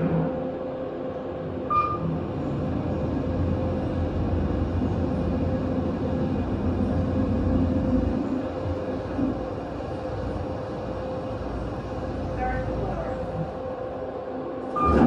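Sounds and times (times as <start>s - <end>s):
elevator running hum: 0.0s - 15.0s.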